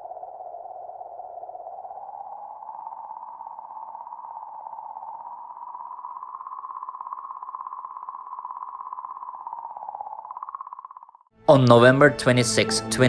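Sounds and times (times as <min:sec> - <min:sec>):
eerie wavering tone: 0:00.0 - 0:11.2.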